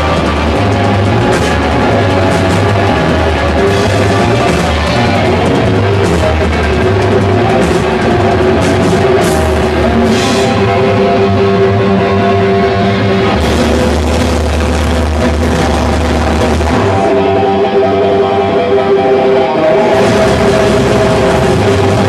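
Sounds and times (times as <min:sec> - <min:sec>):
heavy rock music: 0:00.0 - 0:22.0.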